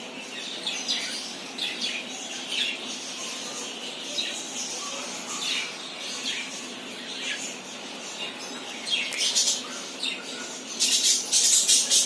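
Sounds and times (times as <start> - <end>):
harsh scratchy bird calls: 0.0 - 12.0.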